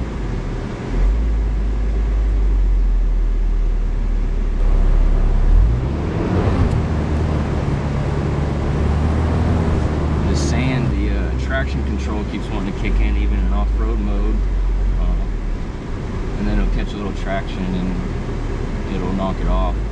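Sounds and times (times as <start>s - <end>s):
pickup engine drone: 0.0s - 19.9s
tyre and road noise: 3.7s - 19.9s.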